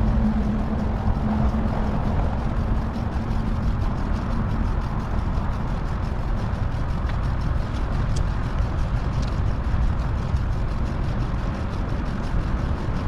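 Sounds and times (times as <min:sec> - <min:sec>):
bicycle road and wind rumble: 0:00.0 - 0:13.0
steady hum: 0:00.0 - 0:13.0.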